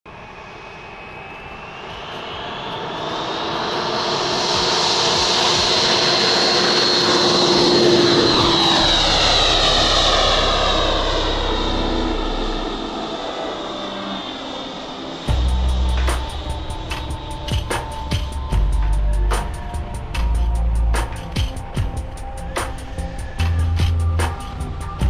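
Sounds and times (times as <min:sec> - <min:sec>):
model jet engine whine: 0:00.1 - 0:25.0.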